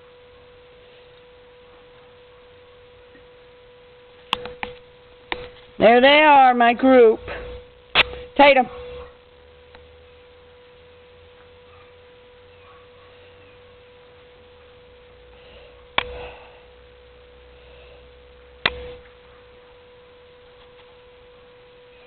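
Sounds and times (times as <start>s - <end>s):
faint hum-like tone: 0.0s - 22.0s.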